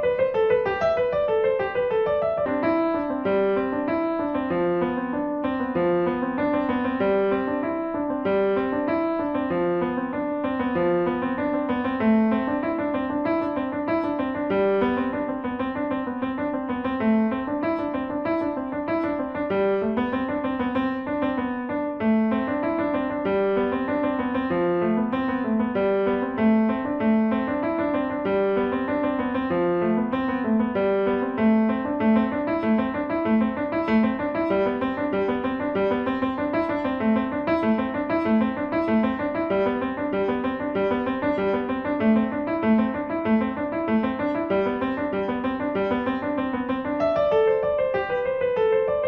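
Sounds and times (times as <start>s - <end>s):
slow gentle piano music: 0.0s - 49.0s.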